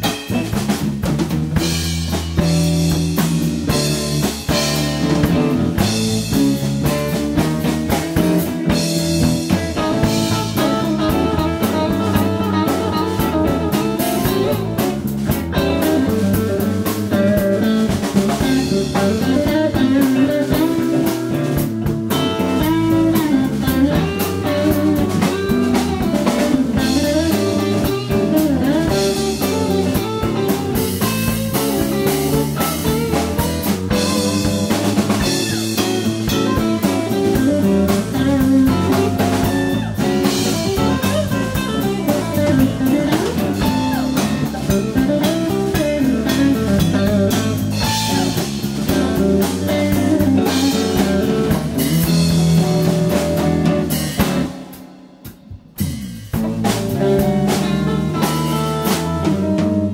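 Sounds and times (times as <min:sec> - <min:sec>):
drum kit: 0:00.0 - 0:59.9
electric bass: 0:00.0 - 0:59.9
electric guitars: 0:00.0 - 0:59.9.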